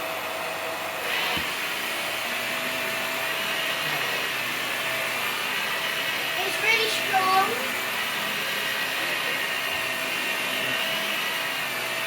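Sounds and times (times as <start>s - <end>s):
vacuum cleaner on carpet: 0.0s - 12.0s
high-pitched brush whir: 1.0s - 12.0s.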